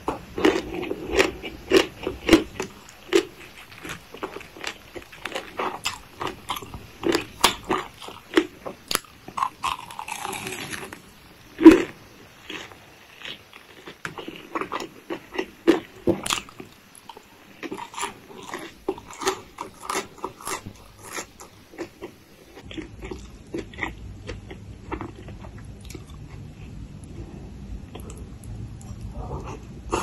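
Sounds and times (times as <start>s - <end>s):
chewing crispy chicken: 0.0s - 11.0s, 11.6s - 26.8s.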